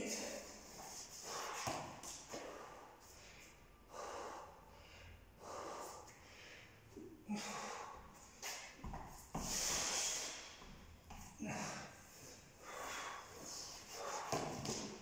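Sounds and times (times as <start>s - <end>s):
man breathing hard: 0.5s - 14.8s.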